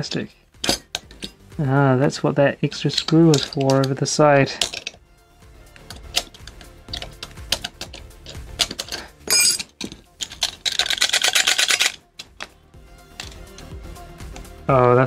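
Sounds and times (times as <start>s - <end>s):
hand tools clicking on metal: 0.6s - 1.4s, 2.1s - 5.0s, 5.7s - 14.6s.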